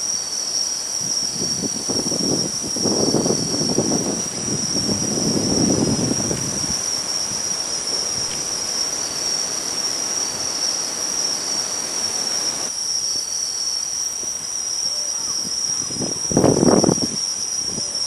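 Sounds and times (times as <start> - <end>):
crickets chirring: 0.0 - 18.0
wind on microphone: 0.9 - 12.7, 15.2 - 18.0.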